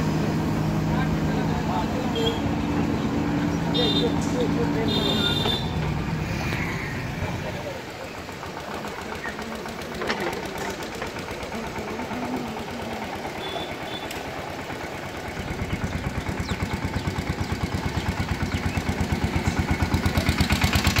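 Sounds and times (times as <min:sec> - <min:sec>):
engine throbbing: 0:00.0 - 0:21.0.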